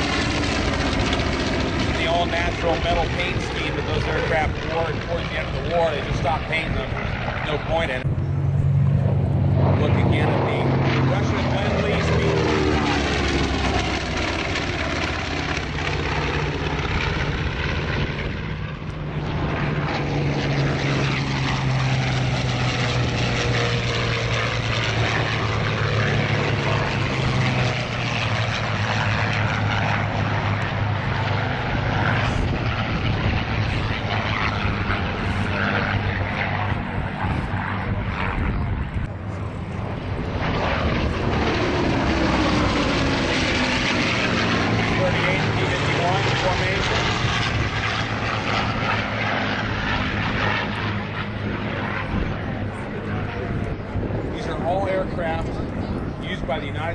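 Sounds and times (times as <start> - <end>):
propeller planes flying by: 0.0 - 56.9.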